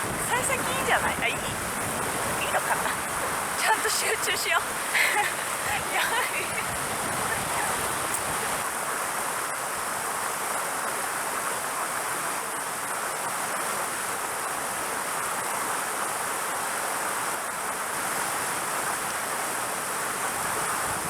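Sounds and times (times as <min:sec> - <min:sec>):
stream water flowing over rocks: 0:00.0 - 0:21.0.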